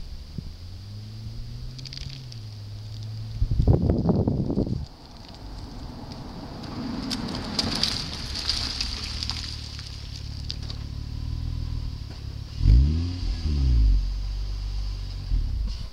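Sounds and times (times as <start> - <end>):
car engine idling and revving: 0.0 - 15.9.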